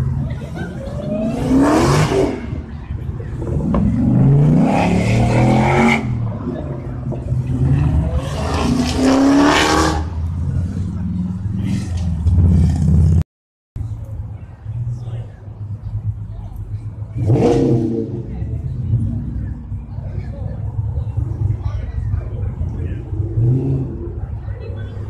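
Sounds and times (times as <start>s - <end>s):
car engine idling and revving: 0.0s - 13.2s, 13.8s - 25.0s.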